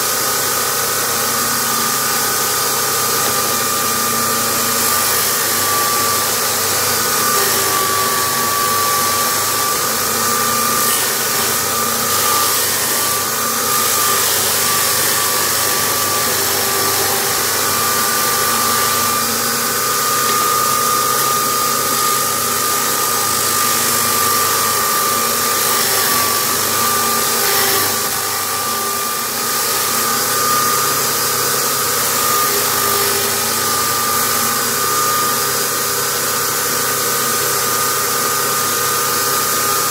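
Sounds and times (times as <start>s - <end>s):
electric drill motor whine: 0.0s - 39.9s
sandpaper sanding wood: 2.3s - 34.7s.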